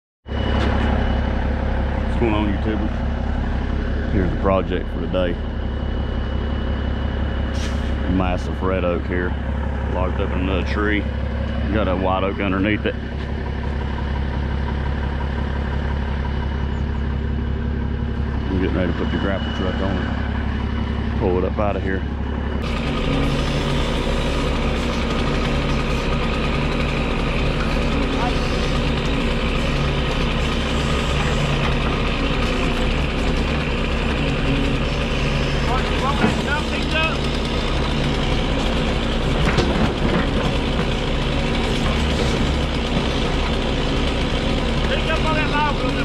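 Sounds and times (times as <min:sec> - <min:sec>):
truck engine running: 0:00.2 - 0:46.0.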